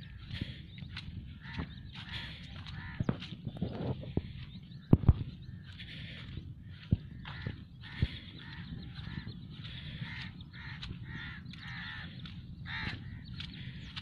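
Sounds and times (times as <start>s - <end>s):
birds cawing and chattering: 0.0s - 14.0s.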